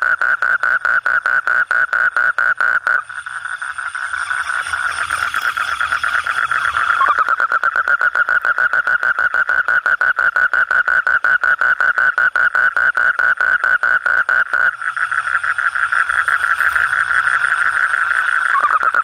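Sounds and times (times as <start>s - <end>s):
toad trilling call: 0.0s - 19.0s.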